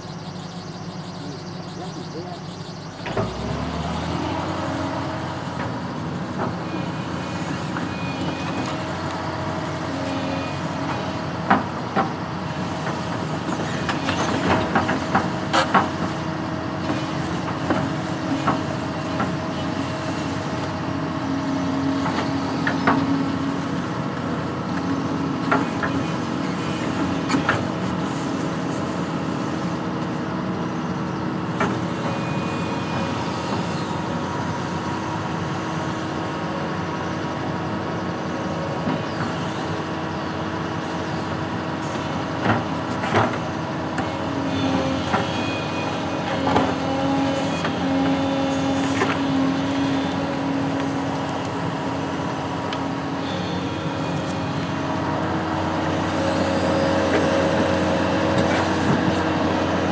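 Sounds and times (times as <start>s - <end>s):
construction machine engine: 0.0s - 59.9s.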